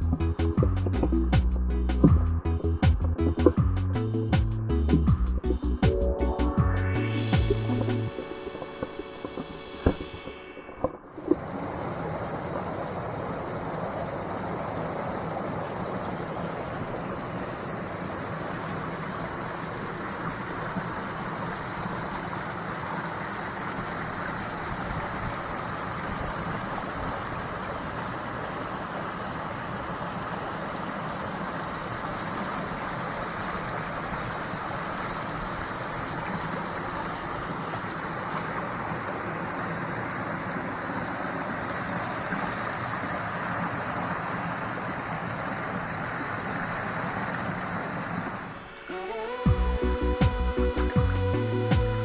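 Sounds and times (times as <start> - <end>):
creek water rushing over rocks: 5.9 - 52.0.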